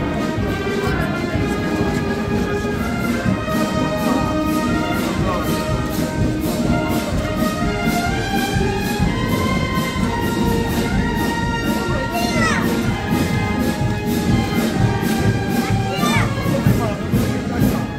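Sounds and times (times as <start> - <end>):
brass band playing: 0.0 - 17.9.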